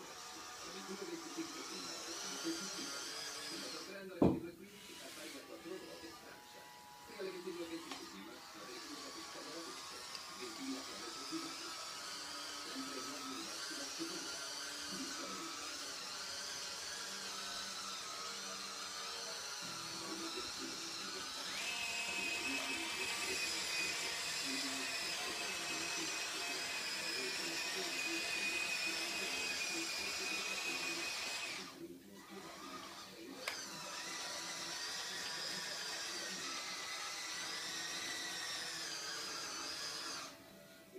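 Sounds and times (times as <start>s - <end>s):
toy bulldozer electric motors whining: 0.0s - 40.5s.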